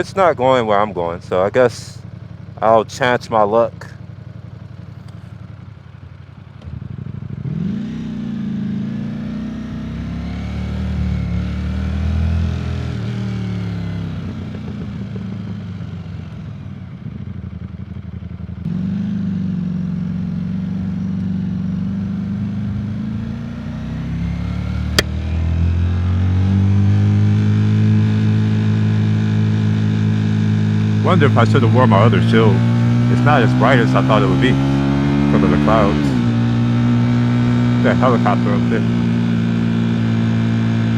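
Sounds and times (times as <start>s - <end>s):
motorcycle engine revving: 6.5s - 16.4s, 17.3s - 40.9s.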